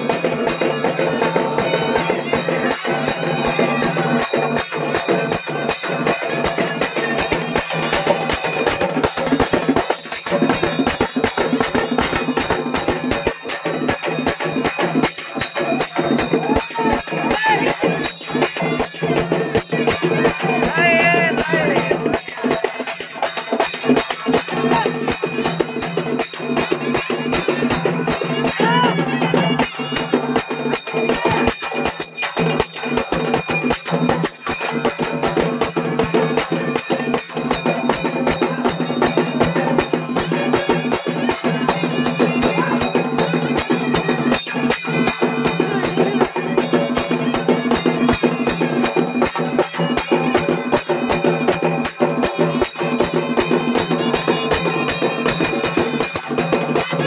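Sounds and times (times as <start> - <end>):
drums and percussion beating fast: 0.0 - 57.0.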